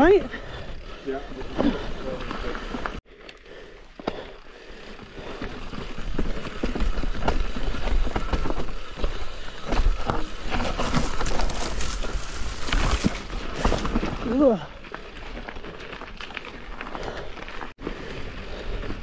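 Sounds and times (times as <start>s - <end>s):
bike tyres on dirt and stones: 0.0s - 19.0s
bike clicks and knocks: 1.5s - 17.6s.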